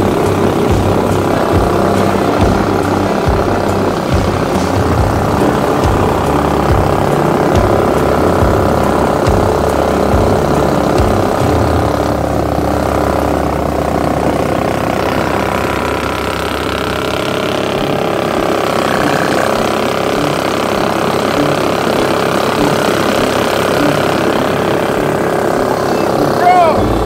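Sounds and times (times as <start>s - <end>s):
boat engine running under load: 0.0s - 27.0s.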